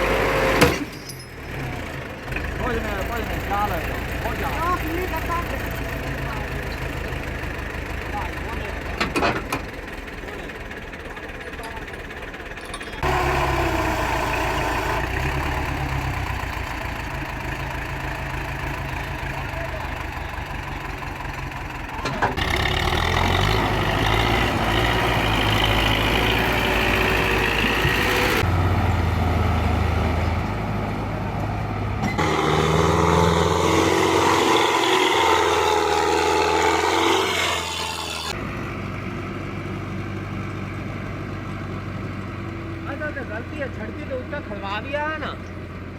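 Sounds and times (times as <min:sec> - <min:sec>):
tractor diesel engine running hard: 0:00.0 - 0:45.9.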